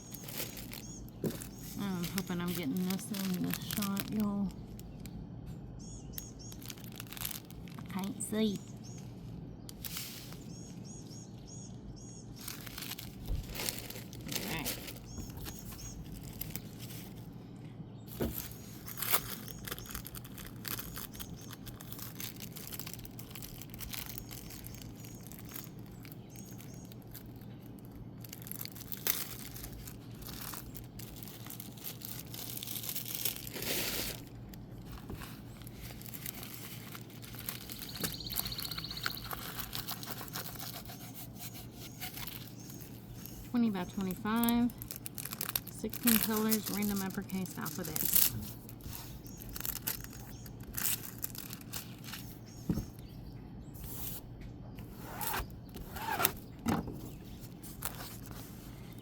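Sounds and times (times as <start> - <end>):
plastic packaging crinkling: 0.0 - 5.2, 6.1 - 10.6, 12.3 - 17.4, 18.1 - 53.2, 54.8 - 59.0.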